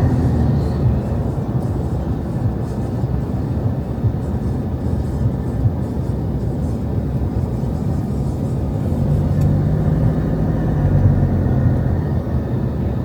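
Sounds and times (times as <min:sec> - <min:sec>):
road traffic rumbling: 0:00.0 - 0:13.0
vehicle engine hum passing: 0:00.0 - 0:13.0.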